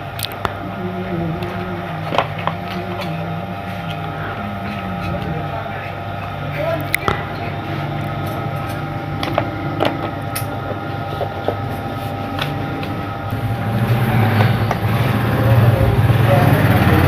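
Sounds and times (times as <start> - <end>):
mechanical hum: 0.0 - 17.0
rushing noise: 0.0 - 17.0.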